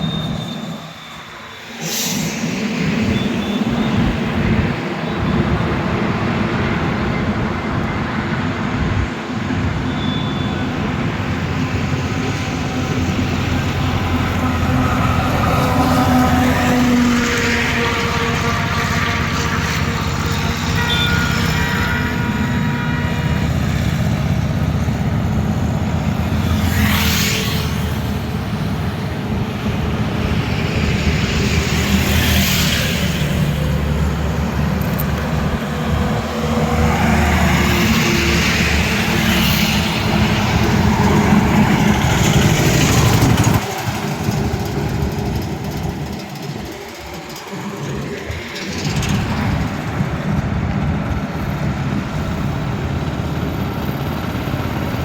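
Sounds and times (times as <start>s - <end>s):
heavy vehicle engines rumbling: 0.0s - 55.0s
trucks and cars passing: 0.0s - 55.0s.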